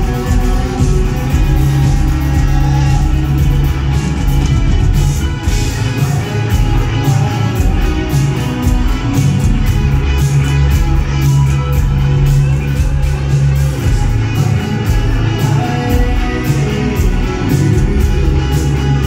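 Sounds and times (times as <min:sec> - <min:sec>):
bass guitar: 0:00.0 - 0:19.0
drum kit with cymbals: 0:00.0 - 0:19.0
electric guitar: 0:00.0 - 0:19.0.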